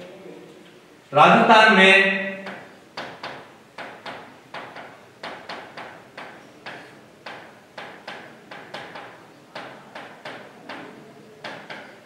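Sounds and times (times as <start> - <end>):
marker pen on whiteboard: 2.3 - 12.0.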